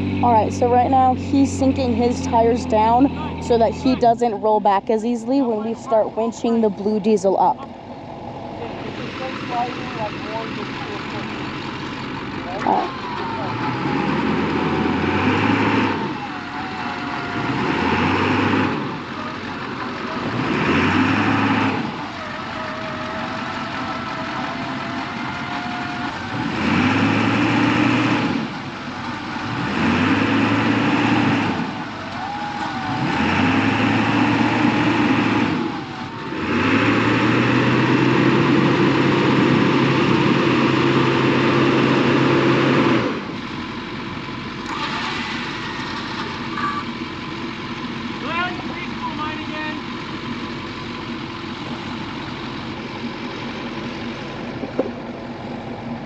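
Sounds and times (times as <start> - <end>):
engine revving: 0.0 - 56.0
tires spinning in sand: 7.8 - 56.0.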